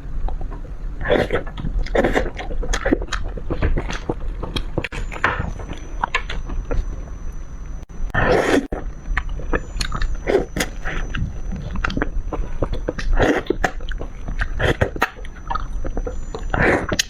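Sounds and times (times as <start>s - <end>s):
wet chewing with mouth clicks: 0.2s - 17.0s.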